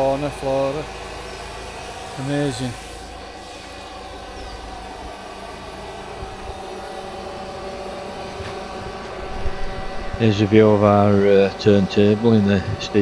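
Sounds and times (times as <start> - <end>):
electric blower whirring drone: 0.0 - 13.0.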